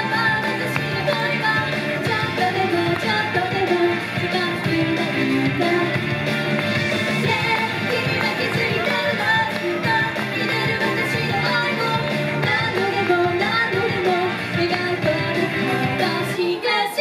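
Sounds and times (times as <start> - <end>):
women singing: 0.0 - 6.0, 7.1 - 17.0
upbeat rock-styled pop backing: 0.0 - 16.4.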